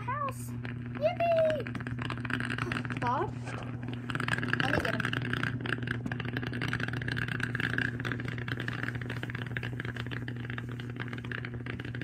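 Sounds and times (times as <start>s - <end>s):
continuous low hum: 0.0s - 12.0s
dry ice bubbling in water: 0.0s - 12.0s.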